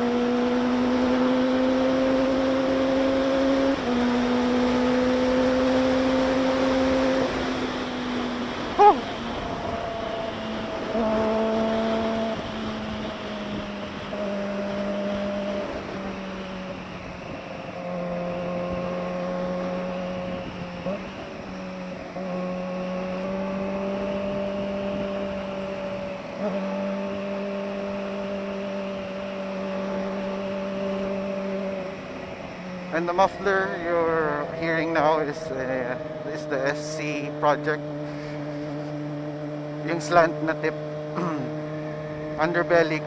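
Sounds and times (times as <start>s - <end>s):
motorcycle engine revving high: 0.0s - 43.0s.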